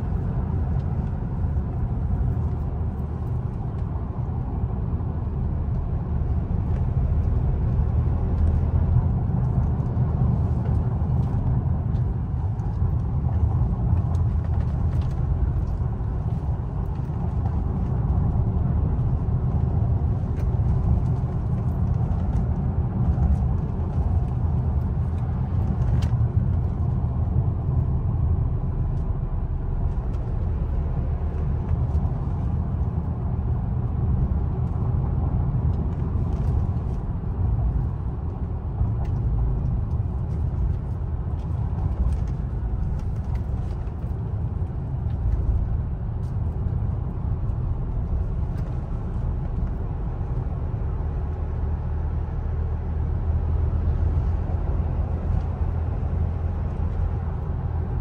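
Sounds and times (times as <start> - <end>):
car engine inside cabin: 0.0 - 58.0.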